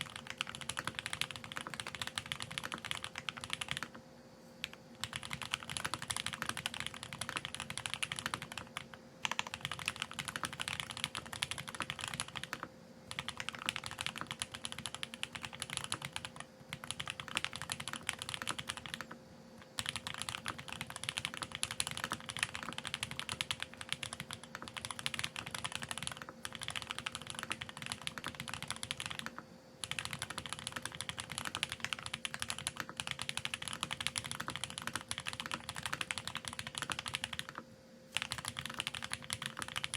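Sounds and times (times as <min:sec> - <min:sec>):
fast mechanical keyboard typing: 0:00.0 - 0:04.0, 0:04.6 - 0:39.9.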